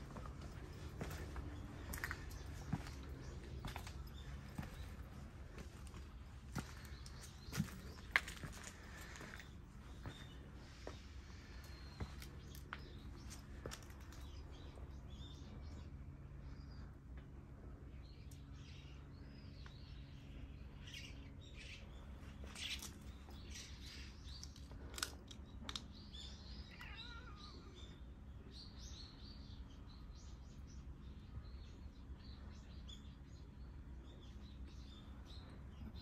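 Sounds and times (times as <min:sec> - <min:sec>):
faint low hum: 0:00.0 - 0:36.0
small birds chirping: 0:00.0 - 0:36.0.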